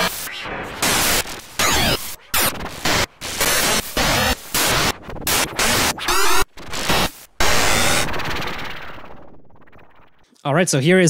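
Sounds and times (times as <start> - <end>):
harsh glitchy synth textures: 0.0 - 10.2.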